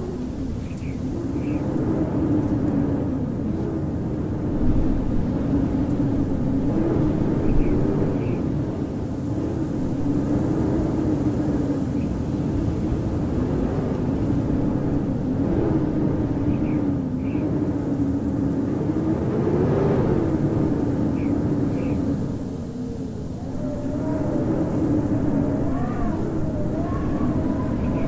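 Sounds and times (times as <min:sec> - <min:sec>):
howling wind: 0:00.0 - 0:28.0.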